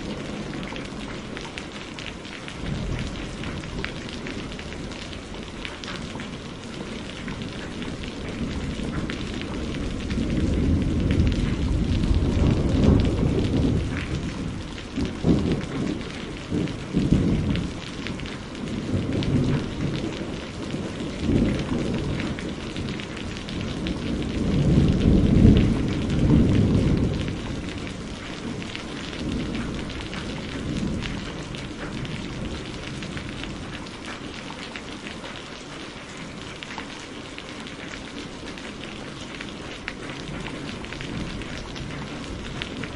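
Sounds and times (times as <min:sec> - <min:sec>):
thunder rumbling: 0:00.0 - 0:34.7, 0:39.9 - 0:42.9
rain pattering: 0:00.0 - 0:42.9.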